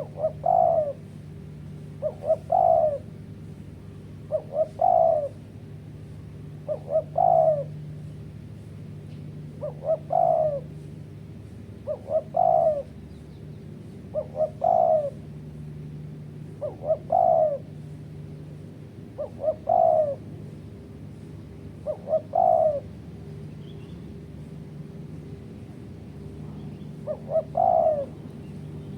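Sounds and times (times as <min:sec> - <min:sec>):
dove cooing: 0:00.0 - 0:08.1, 0:09.4 - 0:13.2, 0:13.8 - 0:15.5, 0:16.3 - 0:23.4, 0:26.2 - 0:28.9.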